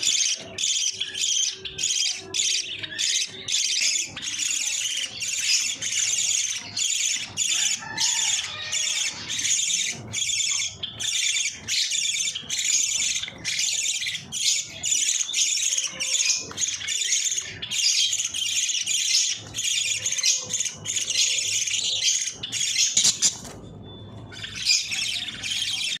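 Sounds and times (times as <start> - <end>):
budgerigars chattering: 0.0 - 23.6, 24.2 - 26.0.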